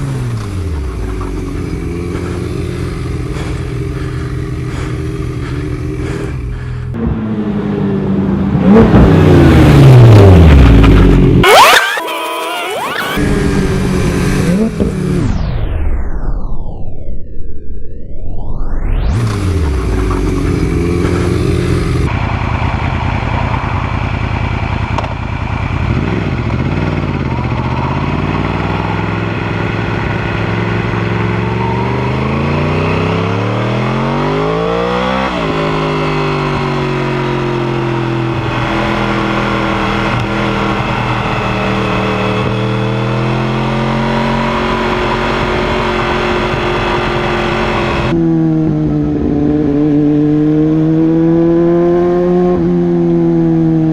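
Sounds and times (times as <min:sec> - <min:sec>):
motorcycle engine accelerating: 0:00.0 - 0:12.0, 0:12.8 - 0:15.8, 0:19.0 - 0:53.9.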